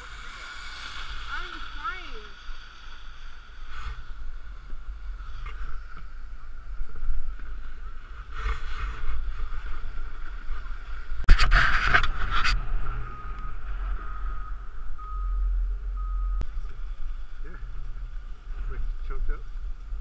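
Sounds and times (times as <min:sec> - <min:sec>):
muffled wind rumble: 0:00.0 - 0:20.0.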